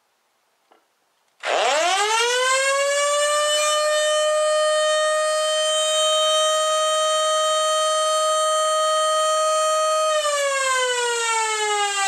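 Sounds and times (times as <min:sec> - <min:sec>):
siren wailing: 0:01.4 - 0:12.0.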